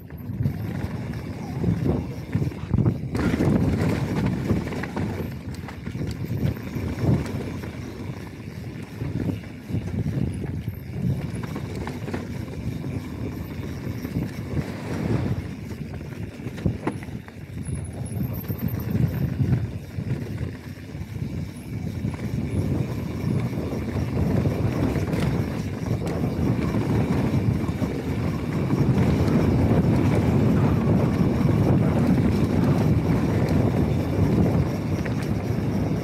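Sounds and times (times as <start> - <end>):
bike knocking and rattling: 0.0 - 36.0
bike tyres rolling over dirt and stones: 0.0 - 36.0
wind and ground rumble: 0.0 - 36.0.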